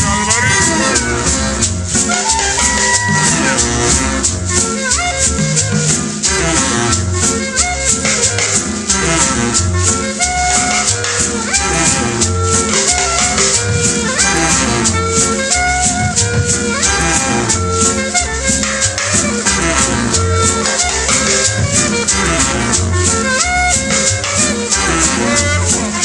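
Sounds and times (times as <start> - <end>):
instrumental cumbia music: 0.0 - 26.0.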